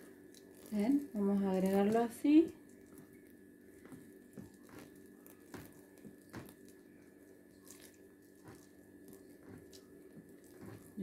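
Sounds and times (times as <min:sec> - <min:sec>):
squelching jelly-like soap: 0:00.0 - 0:11.0.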